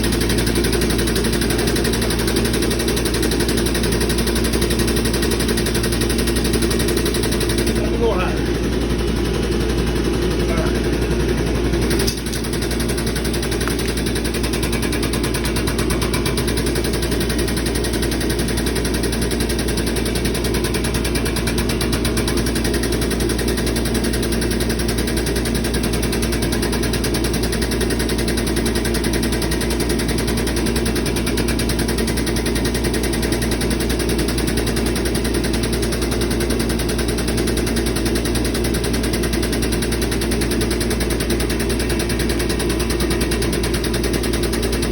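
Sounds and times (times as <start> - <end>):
pneumatic press rattling: 0.0 - 44.9.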